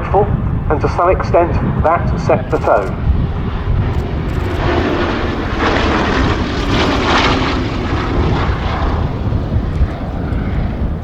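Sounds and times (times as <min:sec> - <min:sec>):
aircraft engines in flight: 0:00.0 - 0:11.0.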